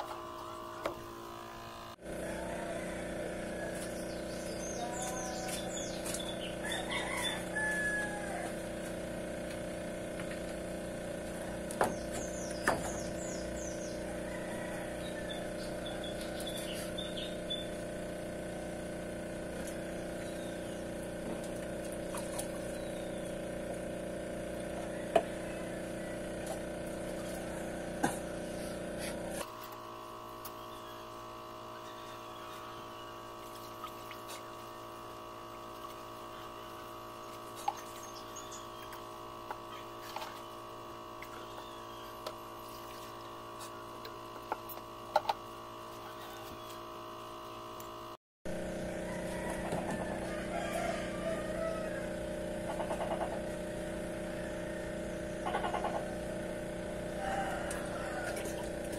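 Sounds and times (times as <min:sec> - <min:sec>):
aquarium pumps humming: 0:00.0 - 0:58.9.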